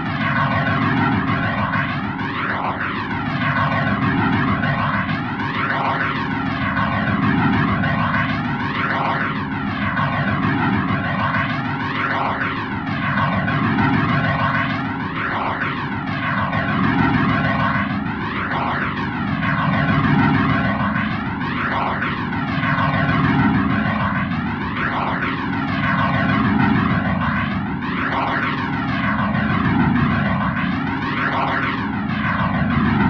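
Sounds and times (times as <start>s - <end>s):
harsh noise music with flanger: 0.0s - 33.0s.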